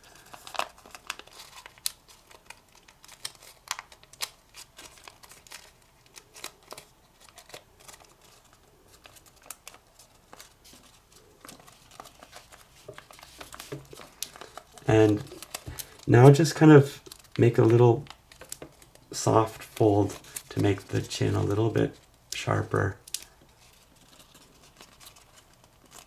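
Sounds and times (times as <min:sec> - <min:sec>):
paper crinkling: 0:00.0 - 0:26.0.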